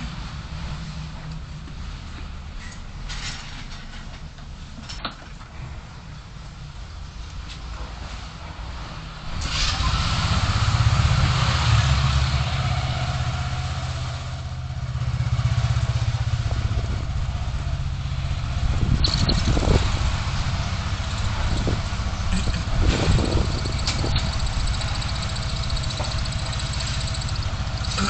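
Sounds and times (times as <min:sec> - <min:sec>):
car driving in traffic: 0:00.0 - 0:28.0.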